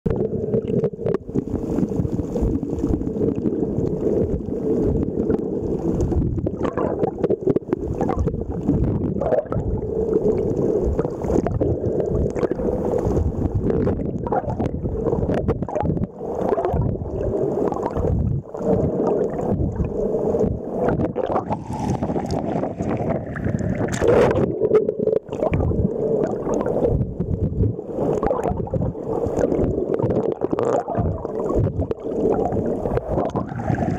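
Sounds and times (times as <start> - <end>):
underwater rumble and gurgling: 0.0 - 33.9.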